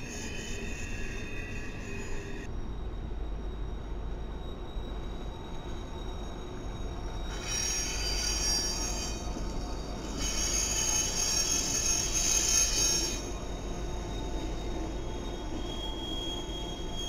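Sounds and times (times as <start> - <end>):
low rumble of train: 0.0 - 17.0
train wheels squealing on rail: 0.0 - 17.0.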